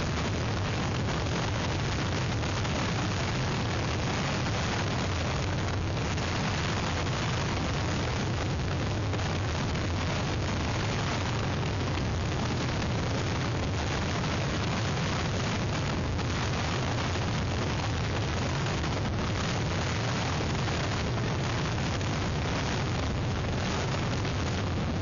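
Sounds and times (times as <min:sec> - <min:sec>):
rain: 0:00.0 - 0:25.0.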